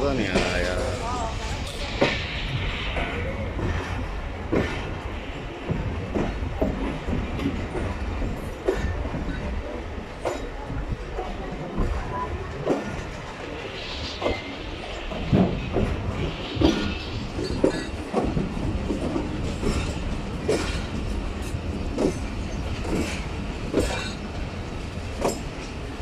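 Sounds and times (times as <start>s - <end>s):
train coach rumbling: 0.0s - 26.0s
train wheels knocking: 3.0s - 13.3s, 15.1s - 26.0s.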